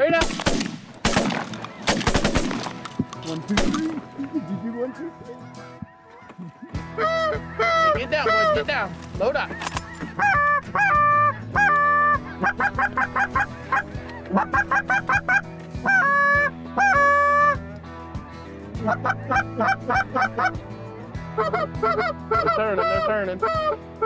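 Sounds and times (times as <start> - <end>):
geese honking: 1.2 - 17.6, 18.8 - 24.0.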